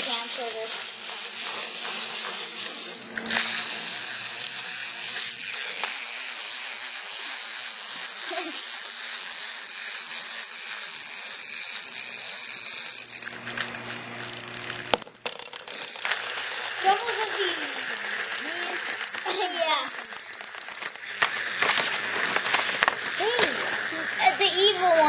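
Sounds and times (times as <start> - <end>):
clockwork toy whirring: 0.0 - 25.0.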